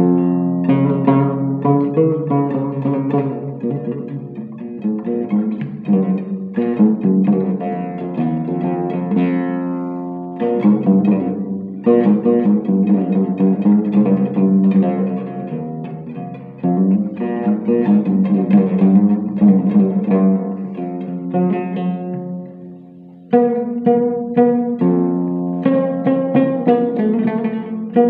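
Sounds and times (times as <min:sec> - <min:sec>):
plucked lute folk melody: 0:00.0 - 0:28.0.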